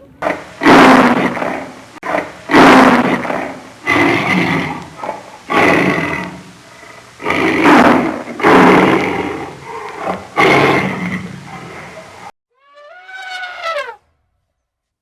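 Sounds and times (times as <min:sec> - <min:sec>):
large animal rough calls: 0:00.2 - 0:14.0.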